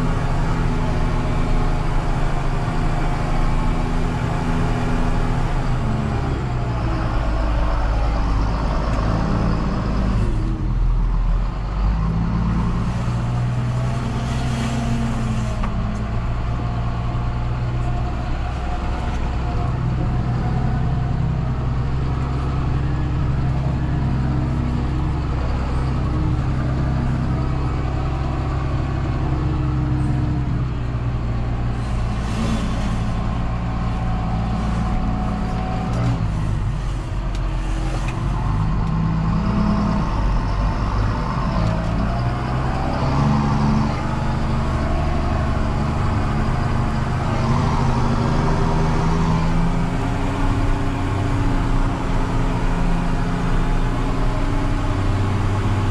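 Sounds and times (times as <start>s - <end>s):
tractor diesel engine: 0.0s - 55.9s.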